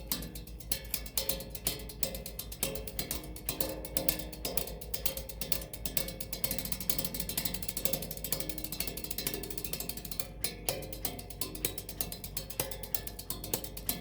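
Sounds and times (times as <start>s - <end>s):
percussion clicks and taps: 0.0s - 14.0s.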